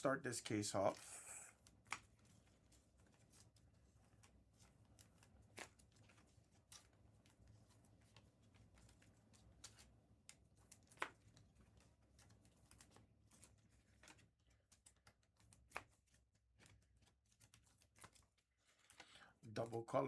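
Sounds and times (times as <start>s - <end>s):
trading cards and packaging rustling: 0.0s - 20.0s.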